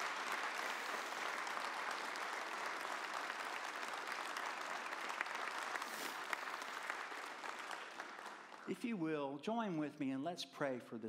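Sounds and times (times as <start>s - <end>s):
congregation applauding: 0.0s - 9.0s.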